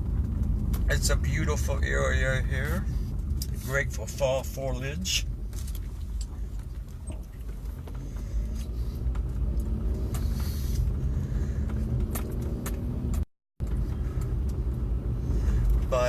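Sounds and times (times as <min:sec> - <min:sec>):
engine and tyre rumble: 0:00.0 - 0:16.0
faint engine hum: 0:00.0 - 0:16.0.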